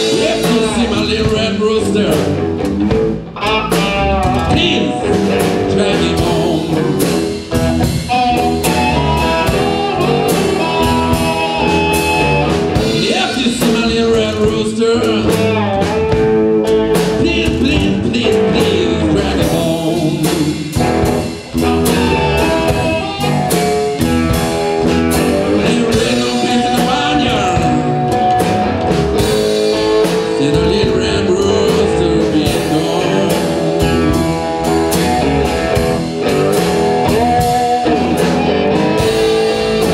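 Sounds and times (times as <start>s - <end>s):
amplified guitars: 0.0s - 39.9s
blues band playing: 0.0s - 39.9s
drum kit: 0.0s - 39.9s.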